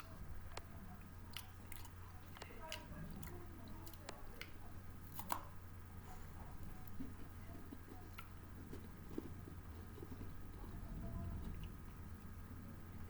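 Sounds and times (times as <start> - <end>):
chewing crunchy snack food: 0.0 - 5.6, 6.6 - 12.0
steady low hum: 0.0 - 13.0.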